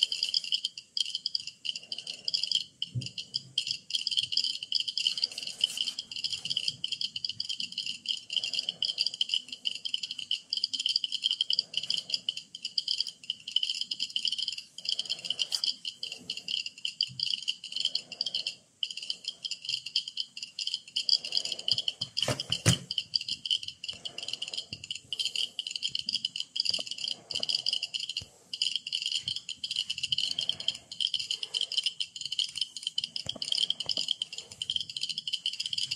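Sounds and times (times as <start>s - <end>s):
geiger counters clicking: 0.0s - 35.9s.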